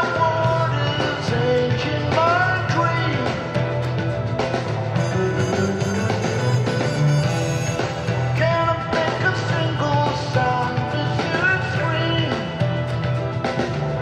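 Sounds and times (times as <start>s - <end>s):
bent melody line: 0.0s - 14.0s
live rock band: 0.0s - 14.0s.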